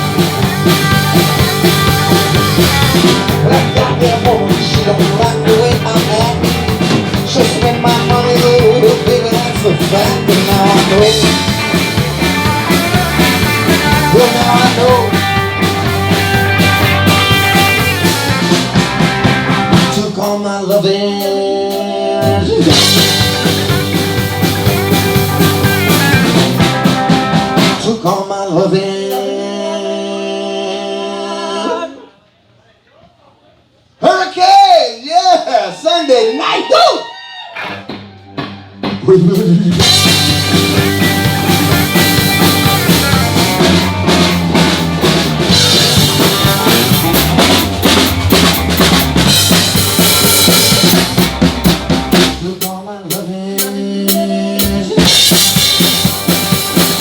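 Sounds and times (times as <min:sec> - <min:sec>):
live band playing: 0:00.0 - 0:28.2, 0:36.6 - 0:57.0
drums: 0:00.0 - 0:30.7, 0:36.6 - 0:57.0.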